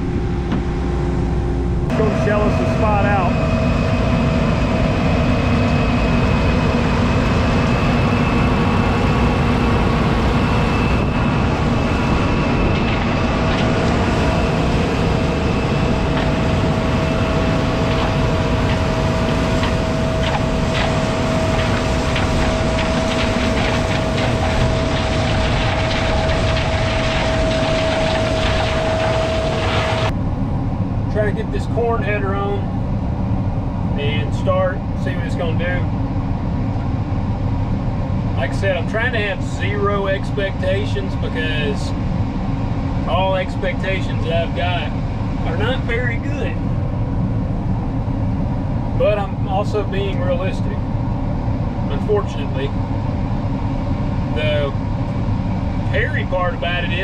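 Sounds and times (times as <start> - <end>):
combine engine drone: 0.0 - 57.0
high machine whine: 0.0 - 57.0.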